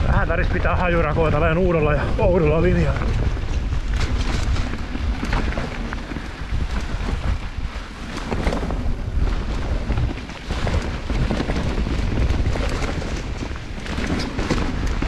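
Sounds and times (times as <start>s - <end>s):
bike knocks and rattles: 0.0s - 15.0s
tyres rumbling on dirt: 0.0s - 15.0s
wind buffeting microphone: 0.0s - 15.0s.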